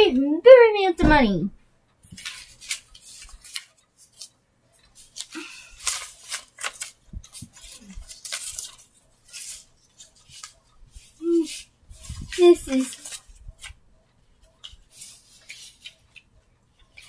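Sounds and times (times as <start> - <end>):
paper bills rustling: 2.1 - 17.0.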